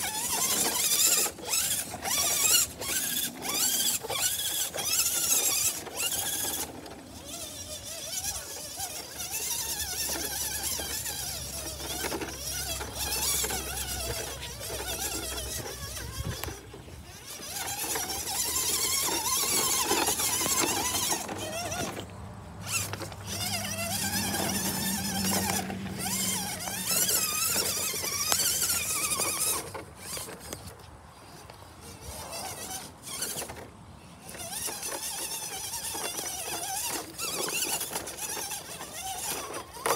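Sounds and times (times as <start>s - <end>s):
electric motor and gears whining: 0.0s - 39.9s
tyres scraping over loose stones: 0.0s - 39.9s.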